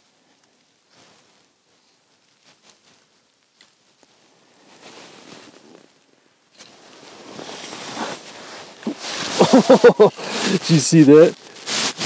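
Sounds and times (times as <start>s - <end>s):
clothing rustling: 0.6s - 12.0s.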